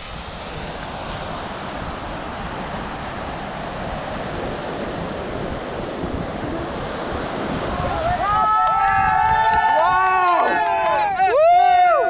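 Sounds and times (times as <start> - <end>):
wind buffeting microphone: 0.0 - 11.4
surf breaking on beach: 0.0 - 12.0.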